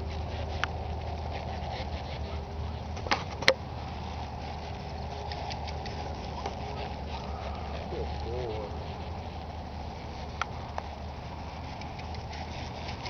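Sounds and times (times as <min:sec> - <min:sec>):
hooves thudding on dirt: 0:00.0 - 0:13.0.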